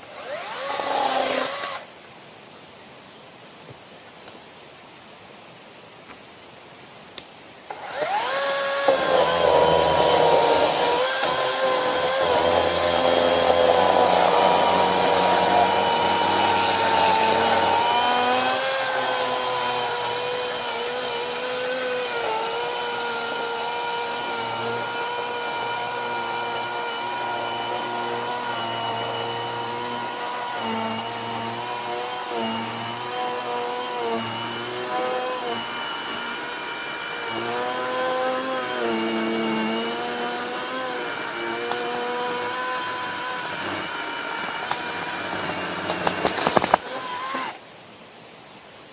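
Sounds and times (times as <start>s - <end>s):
electric chainsaw whine: 0.0s - 1.9s, 7.7s - 47.6s.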